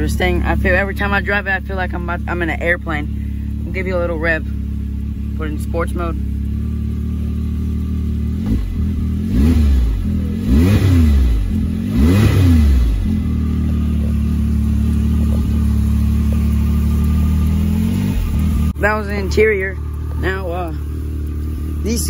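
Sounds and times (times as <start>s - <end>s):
engine idling: 0.0s - 22.0s
engine revving: 0.0s - 22.0s.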